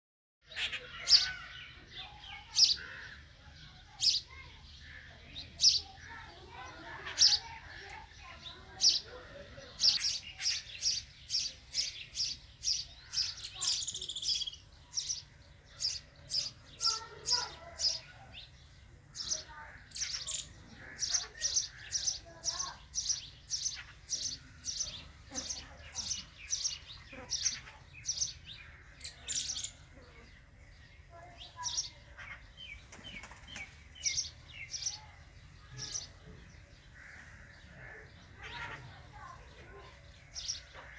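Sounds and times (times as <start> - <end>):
sparrow chirping: 0.5 - 40.9.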